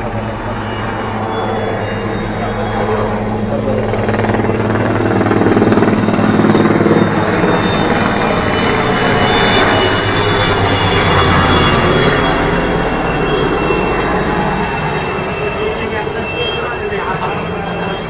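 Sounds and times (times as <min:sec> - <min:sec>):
helicopter rotor chopping: 0:00.0 - 0:18.0.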